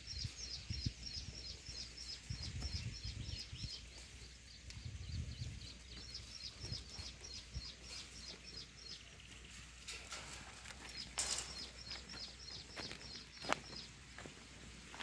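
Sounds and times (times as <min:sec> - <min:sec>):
small bird chirping: 0:00.0 - 0:14.3.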